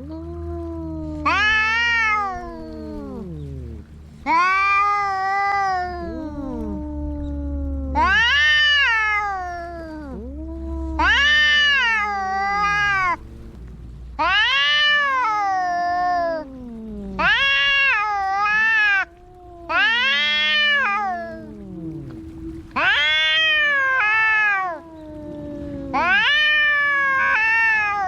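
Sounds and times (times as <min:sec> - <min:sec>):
cats growling cries: 0:00.0 - 0:28.0
cats yowling: 0:00.0 - 0:28.0.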